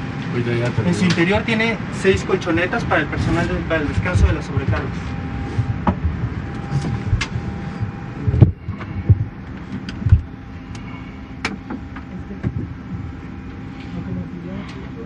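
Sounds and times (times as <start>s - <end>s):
cabin ventilation hum: 0.0s - 15.0s.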